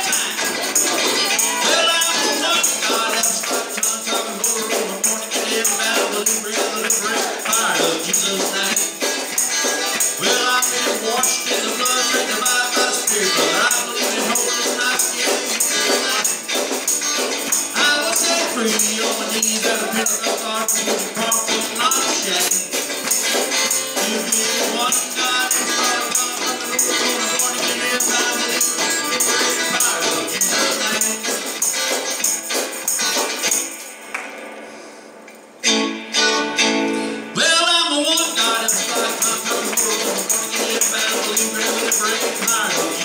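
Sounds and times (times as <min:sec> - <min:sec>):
instrumental gospel electric guitar: 0:00.0 - 0:43.0.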